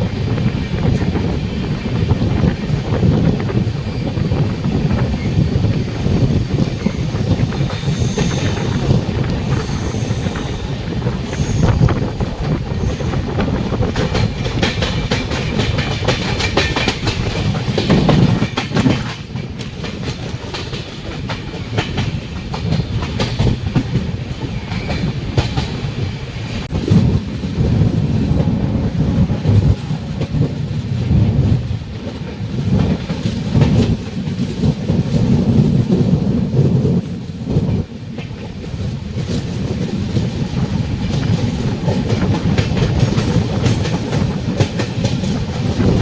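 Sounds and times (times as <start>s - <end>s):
wheels clacking over rail joints: 0.0s - 28.6s, 29.2s - 46.0s
train coaches rumbling past: 0.0s - 46.0s.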